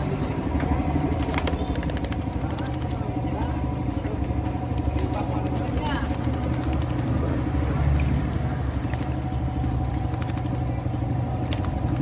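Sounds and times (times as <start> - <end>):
low motor drone: 0.0 - 12.0.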